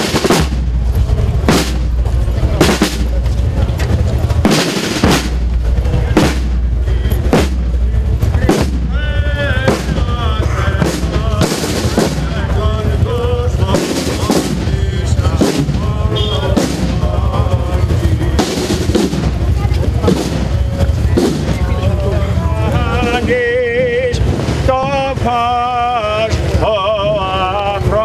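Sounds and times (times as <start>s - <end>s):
snare and bass drums marching: 0.0s - 28.0s.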